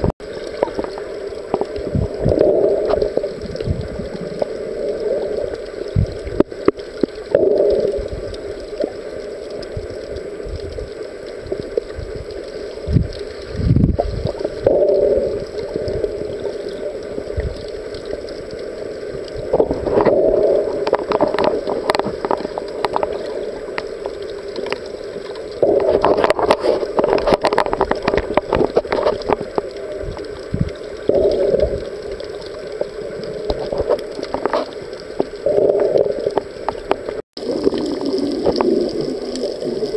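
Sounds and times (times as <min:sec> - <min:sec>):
muffled underwater rush: 0:00.0 - 0:39.9
underwater clicks and crackles: 0:00.0 - 0:39.9.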